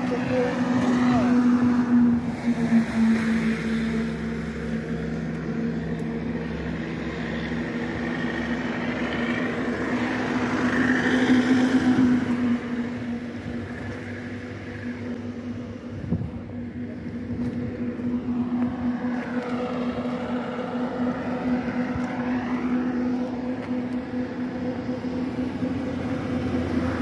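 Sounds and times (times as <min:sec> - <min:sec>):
traffic engine hum: 0:00.0 - 0:27.0
vehicle passing: 0:00.0 - 0:27.0.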